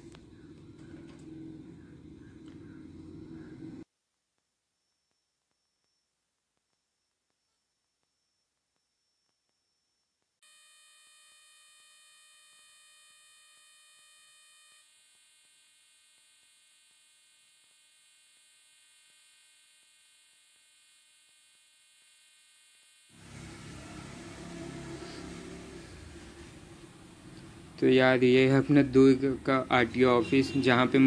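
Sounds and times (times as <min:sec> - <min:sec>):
faint electronic buzzing tone: 0:00.0 - 0:31.0.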